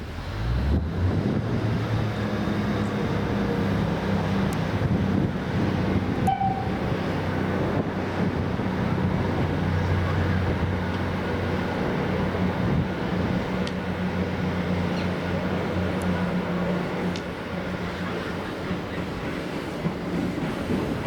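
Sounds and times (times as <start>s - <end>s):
train drone and rumble: 0.0s - 21.0s.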